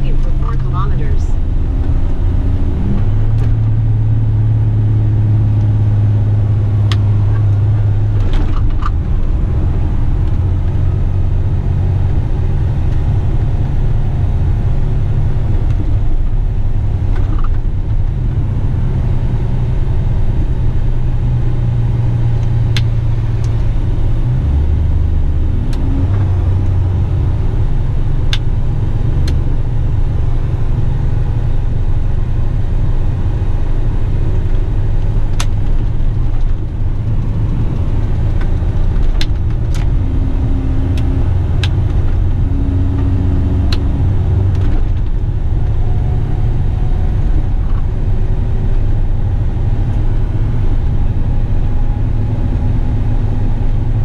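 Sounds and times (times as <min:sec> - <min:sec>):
diesel truck engine driving: 0:00.0 - 0:54.0.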